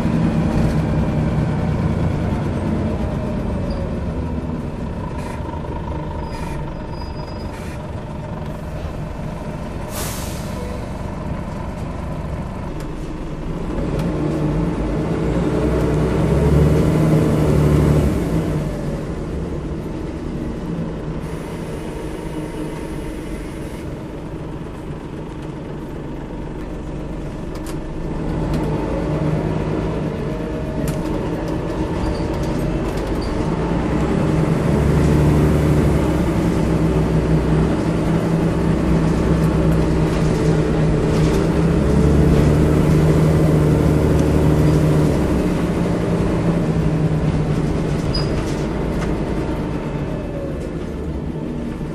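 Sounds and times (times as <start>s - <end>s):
bus diesel engine accelerating: 0.0s - 51.9s.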